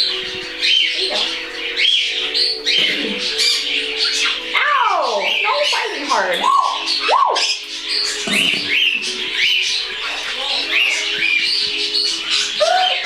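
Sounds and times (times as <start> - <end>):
cockatiels chirping: 0.0 - 13.0.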